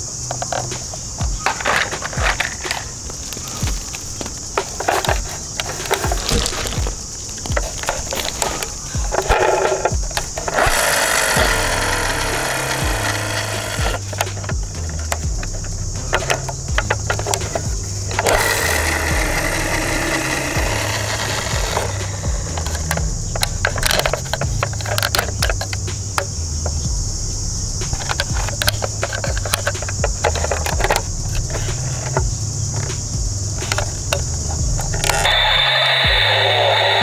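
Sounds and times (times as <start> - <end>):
plastic toy clicks and knocks: 0.3 - 26.8, 27.9 - 33.0, 33.6 - 35.3
loud electronic tone with hiss: 0.8 - 24.7, 25.3 - 37.0.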